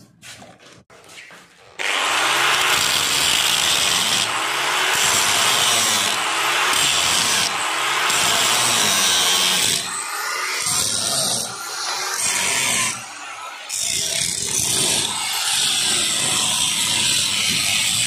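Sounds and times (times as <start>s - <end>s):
angle grinder cutting metal: 1.7s - 18.0s.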